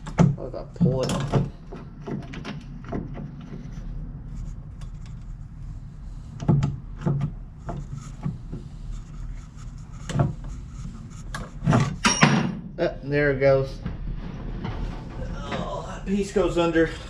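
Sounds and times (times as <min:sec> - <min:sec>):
steady low hum: 0:00.0 - 0:17.0
metal rubbing and scraping: 0:00.8 - 0:12.2, 0:13.3 - 0:17.0.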